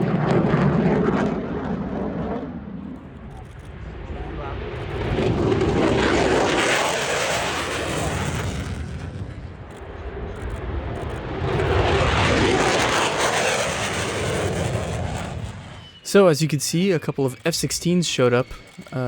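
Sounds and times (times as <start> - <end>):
fighter jets passing: 0.0 - 19.0.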